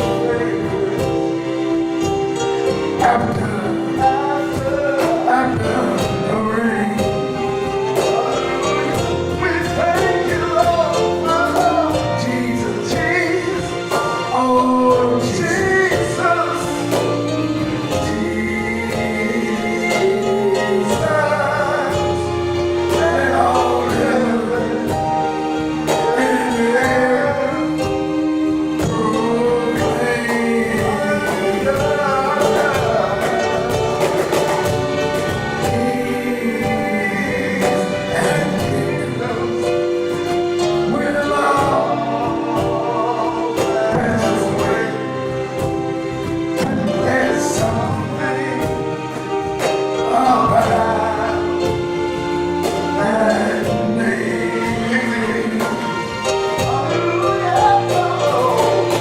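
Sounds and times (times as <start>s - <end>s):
instrumental accompaniment: 0.0s - 59.0s
group singing gospel song: 2.9s - 59.0s.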